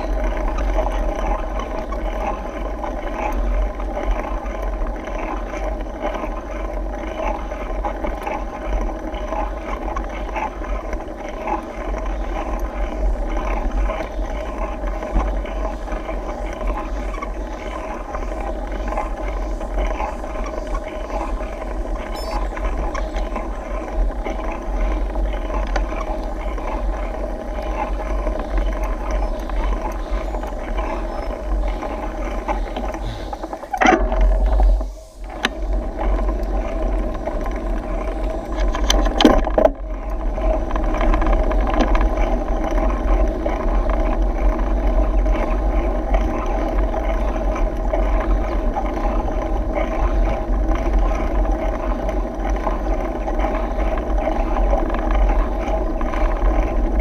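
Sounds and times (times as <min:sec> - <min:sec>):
bike riding rumble: 0:00.0 - 0:57.0
rush of road noise: 0:00.0 - 0:57.0.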